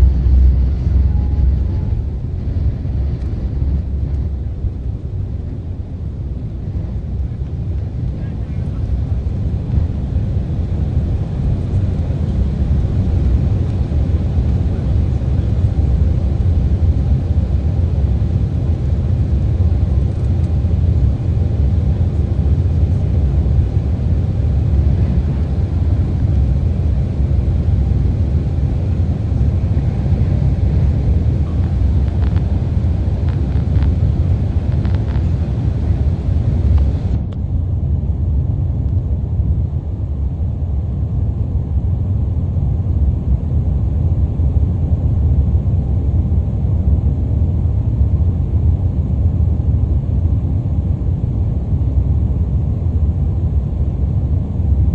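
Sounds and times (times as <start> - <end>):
airliner jet engines rumbling: 0.0 - 54.9.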